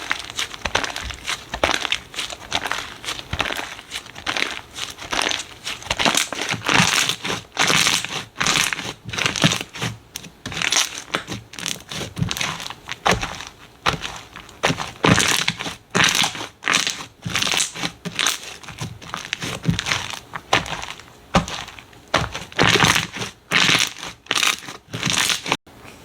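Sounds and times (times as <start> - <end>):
slime squishing: 0.0 - 25.6.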